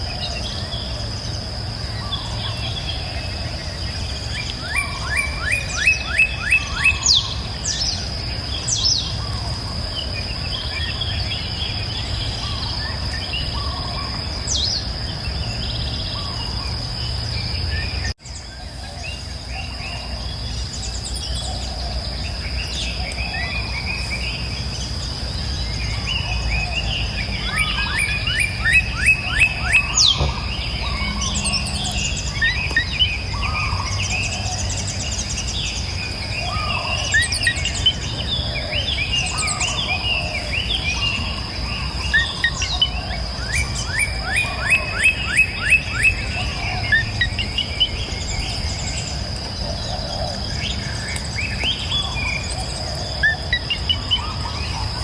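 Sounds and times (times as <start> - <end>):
wild birds chirping and singing: 0.0 - 55.0.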